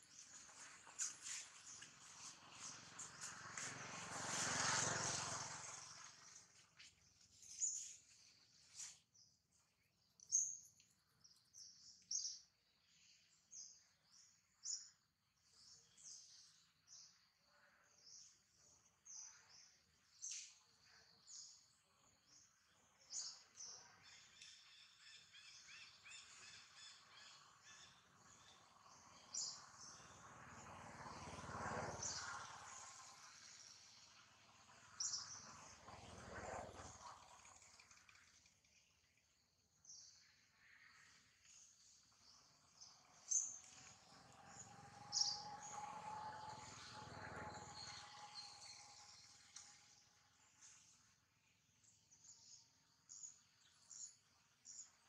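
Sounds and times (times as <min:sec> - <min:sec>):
small birds chirping: 0:05.1 - 0:30.6, 0:32.0 - 0:55.0.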